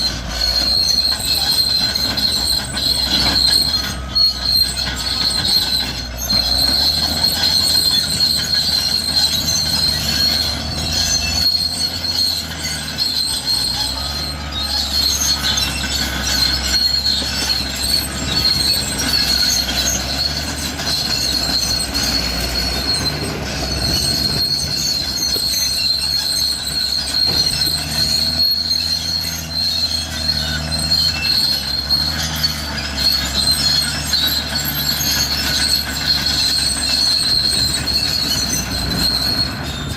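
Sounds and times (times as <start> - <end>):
diesel engine drone: 0.0 - 39.9
steel tracks squealing: 0.0 - 39.9.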